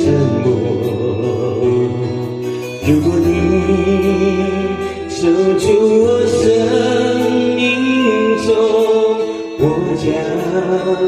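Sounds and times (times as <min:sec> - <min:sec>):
pop love song: 0:00.0 - 0:11.0.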